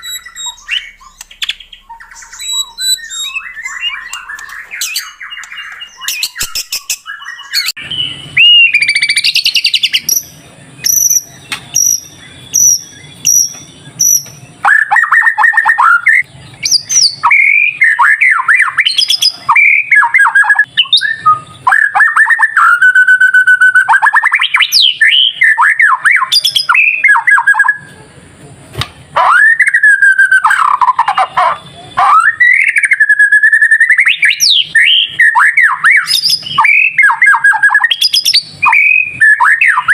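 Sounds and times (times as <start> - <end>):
songbird whistling and trilling: 0.0 - 27.9, 29.2 - 39.9.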